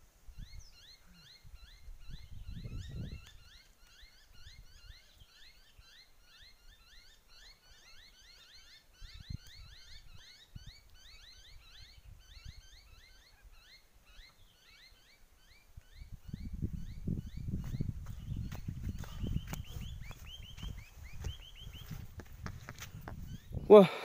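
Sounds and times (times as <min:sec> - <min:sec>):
birds chirping: 0:00.4 - 0:24.0.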